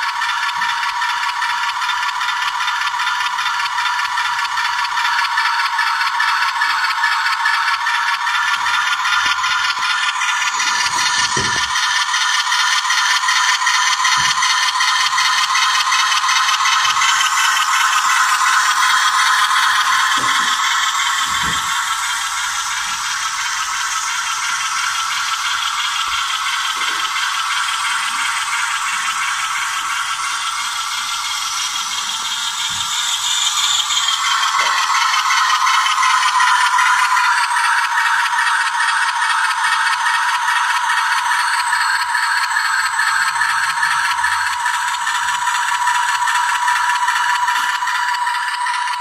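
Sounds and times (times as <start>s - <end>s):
model train whirring rattle: 0.0s - 49.0s.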